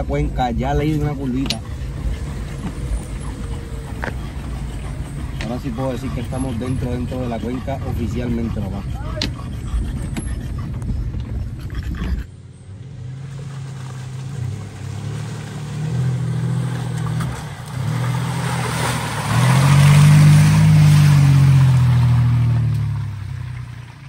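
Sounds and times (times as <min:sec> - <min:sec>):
engine revving off-road: 0:00.0 - 0:24.0.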